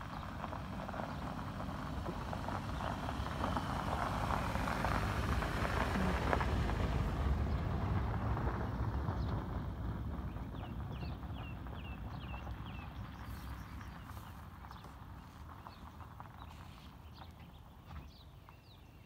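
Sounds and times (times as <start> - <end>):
road vehicle passing: 0.0 - 19.0.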